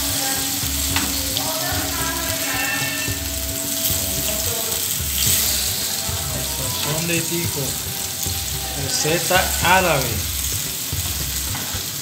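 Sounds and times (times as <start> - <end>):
spatula turning food: 0.0 - 12.0
tomato slices sizzling in oil: 0.0 - 12.0.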